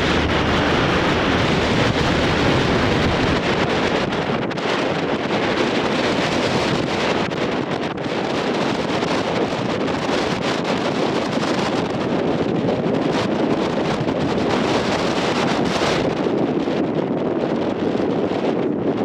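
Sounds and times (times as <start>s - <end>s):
ship running noise: 0.0s - 17.9s
wind rushing over microphone: 0.0s - 19.0s.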